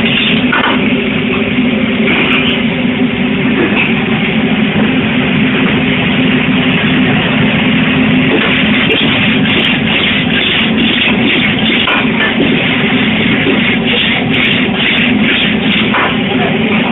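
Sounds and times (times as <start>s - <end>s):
steady roar of noise: 0.0s - 16.9s.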